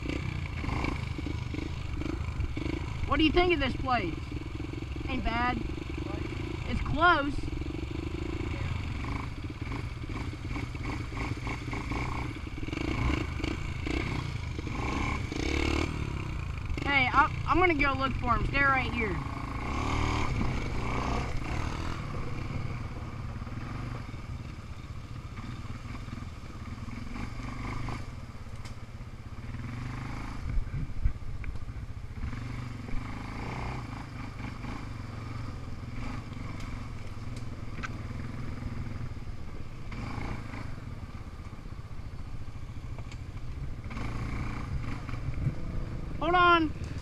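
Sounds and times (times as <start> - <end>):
single-cylinder engine running: 0.0 - 47.0.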